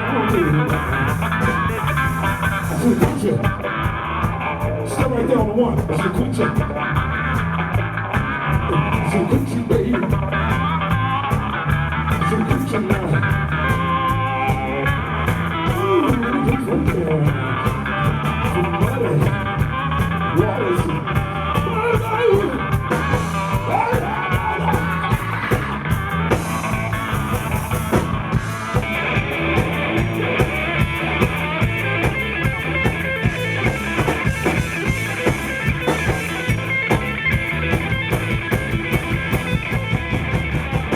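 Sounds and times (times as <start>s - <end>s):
electric guitar bending notes: 0.0s - 40.9s
rock blues band playing: 0.0s - 40.9s.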